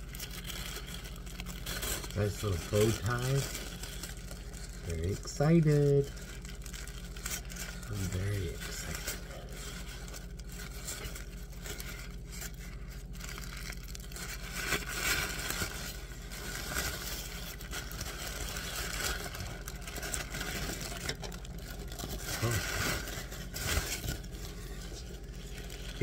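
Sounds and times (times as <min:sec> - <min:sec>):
steady low hum: 0:00.0 - 0:26.0
tissue paper crinkling: 0:00.0 - 0:26.0.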